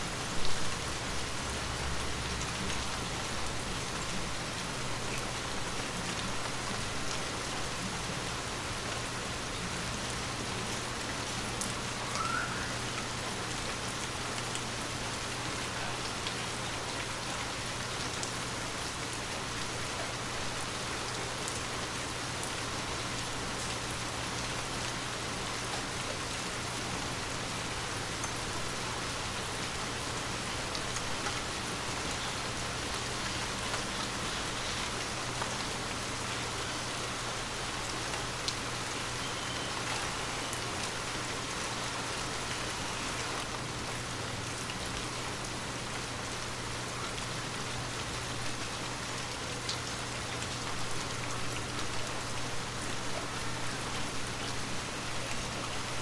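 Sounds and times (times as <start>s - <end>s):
rain falling on a window: 0.0s - 56.0s.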